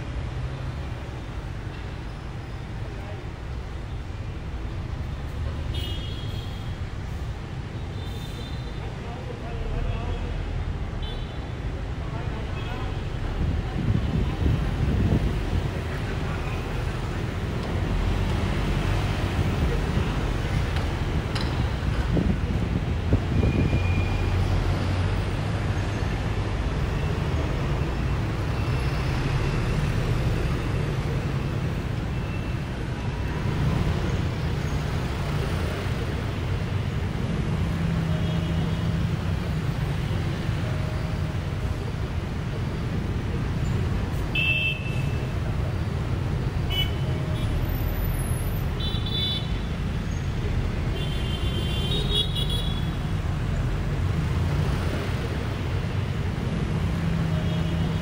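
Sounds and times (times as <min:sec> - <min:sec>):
traffic engines rumbling: 0:00.0 - 0:58.0.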